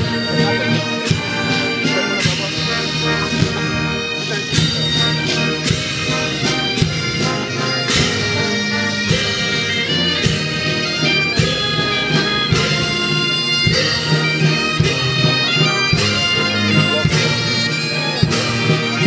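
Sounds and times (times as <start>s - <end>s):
heavy drum strokes: 0.0s - 19.0s
marching band playing: 0.0s - 19.0s.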